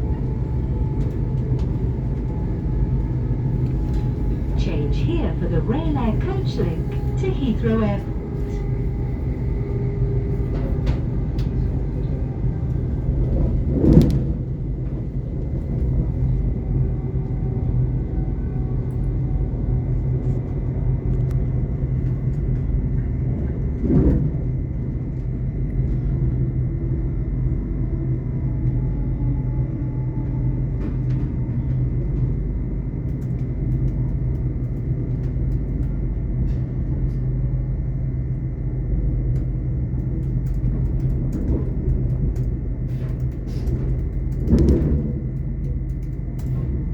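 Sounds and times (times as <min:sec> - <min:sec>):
high train whine: 0:00.0 - 0:46.9
train interior rumble: 0:00.0 - 0:46.9.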